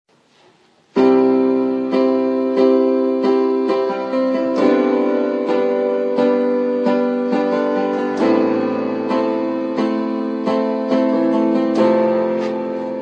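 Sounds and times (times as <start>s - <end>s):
slow piano chords: 0.9s - 13.0s.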